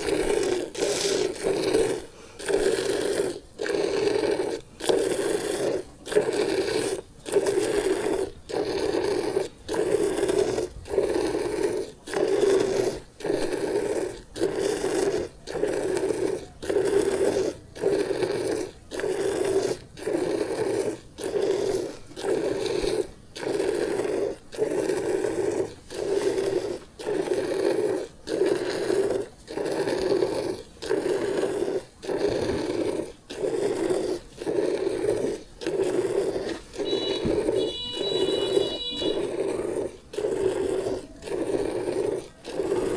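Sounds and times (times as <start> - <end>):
milk squirting into a pail: 0.0 - 42.9.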